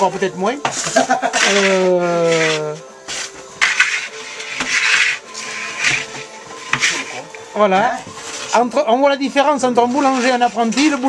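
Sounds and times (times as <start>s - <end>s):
wood scraping hard surfaces: 0.0s - 11.0s.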